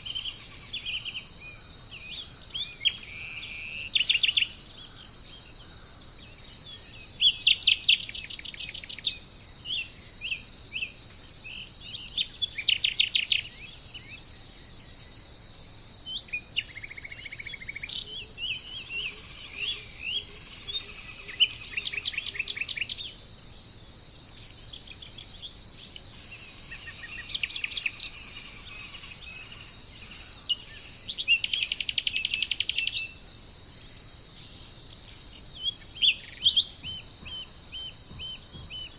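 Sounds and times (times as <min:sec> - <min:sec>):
insects droning: 0:00.0 - 0:38.9
songbirds singing: 0:00.0 - 0:38.9.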